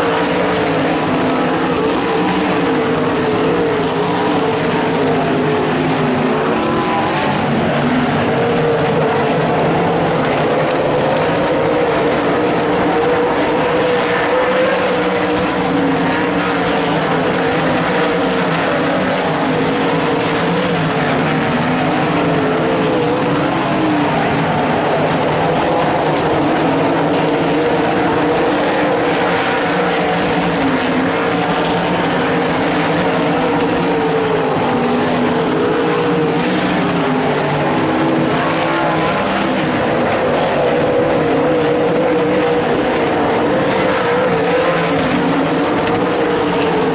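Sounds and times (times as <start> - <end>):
racing car engines: 0.0 - 46.9.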